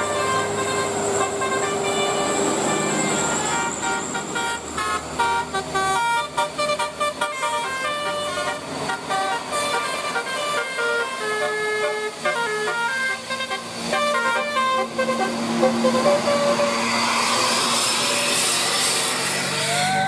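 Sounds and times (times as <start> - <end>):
bus horn playing melodic notes: 0.0 - 17.2.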